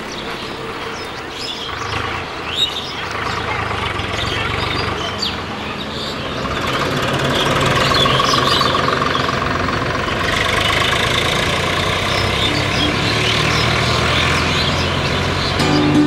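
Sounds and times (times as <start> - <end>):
diesel engine idling with clatter: 0.0 - 16.0.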